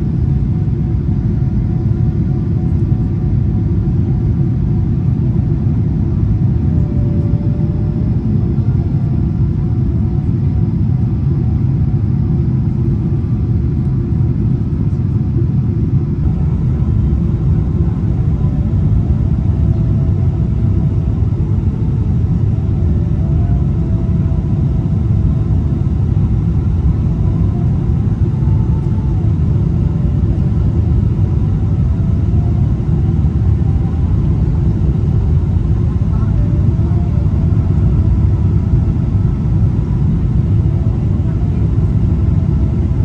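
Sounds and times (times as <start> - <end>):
airliner cabin rumble: 0.0 - 43.0.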